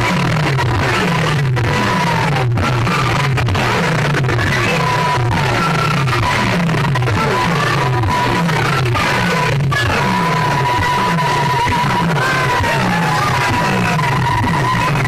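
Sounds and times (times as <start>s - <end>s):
loud music through loudspeakers: 0.0s - 15.0s.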